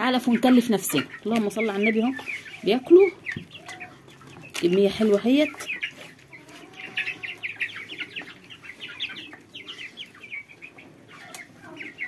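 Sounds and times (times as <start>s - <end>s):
chicks peeping: 0.0s - 12.0s
low clucking: 0.0s - 12.0s.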